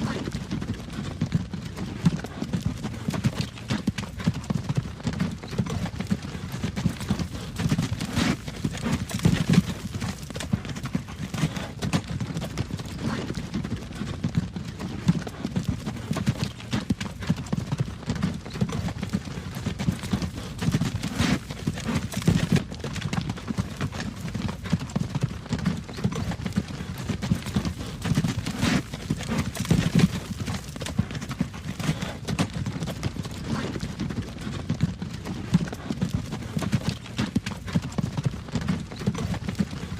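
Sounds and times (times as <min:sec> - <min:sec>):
hooves clip-clopping: 0:00.0 - 0:39.9
wagon wheels rumbling: 0:00.1 - 0:39.9.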